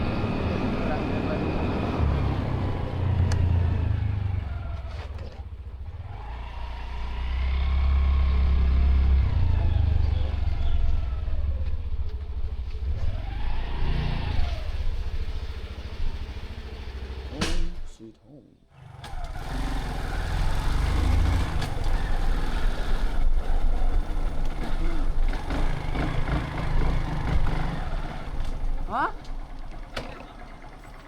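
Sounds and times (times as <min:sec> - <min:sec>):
vehicle engine revving: 0:00.0 - 0:17.8, 0:18.7 - 0:31.0.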